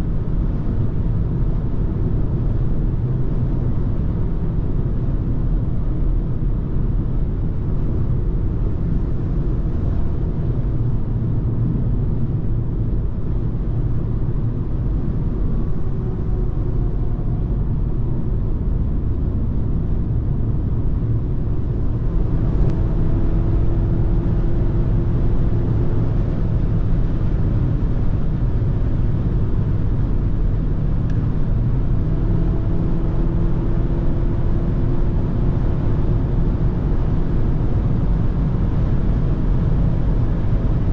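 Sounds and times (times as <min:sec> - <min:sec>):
car engine running: 0:00.1 - 0:40.9.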